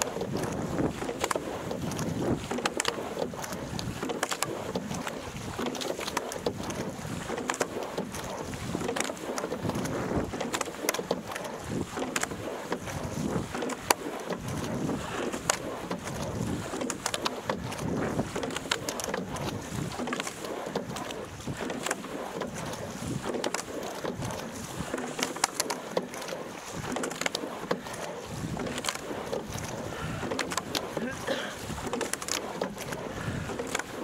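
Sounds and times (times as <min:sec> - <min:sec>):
oar blades splashing: 0:00.0 - 0:34.0
oars clicking in oarlocks: 0:00.0 - 0:34.0
water rushing along a hull: 0:00.0 - 0:34.0.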